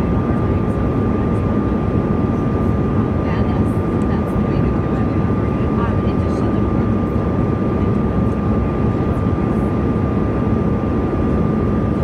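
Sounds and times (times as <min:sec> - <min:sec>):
jet engine cabin rush: 0:00.0 - 0:12.0.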